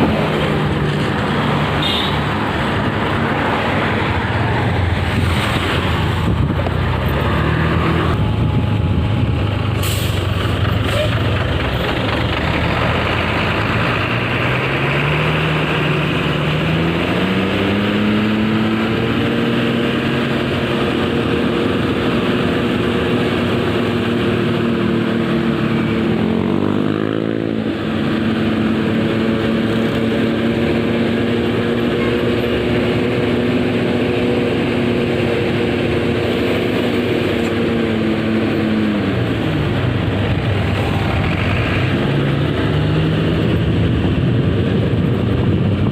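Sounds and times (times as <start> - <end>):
diesel bus engine: 0.0 - 45.9
road noise: 0.0 - 45.9.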